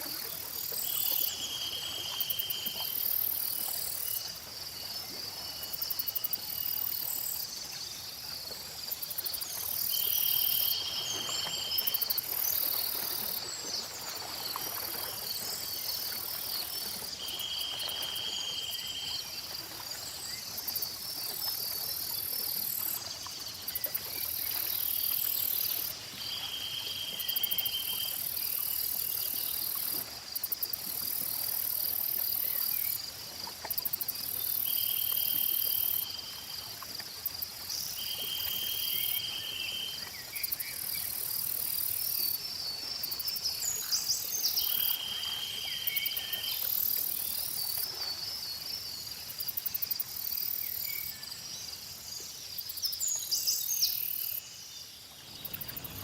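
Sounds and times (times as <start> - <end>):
insects trilling: 0.0 - 48.2, 52.5 - 56.0
lower buzzy insect call: 9.0 - 33.0, 33.6 - 48.0, 48.8 - 56.0.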